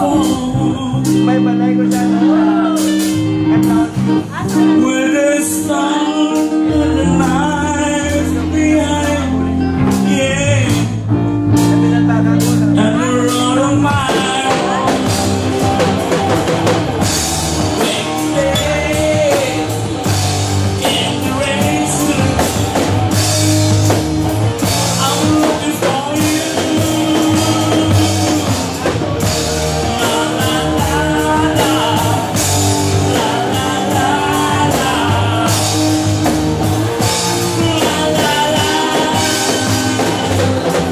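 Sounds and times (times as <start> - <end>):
drum kit with cymbals: 0.0 - 40.9
electric bass: 0.0 - 40.9
electric guitar: 0.0 - 40.9
person singing: 0.0 - 40.9.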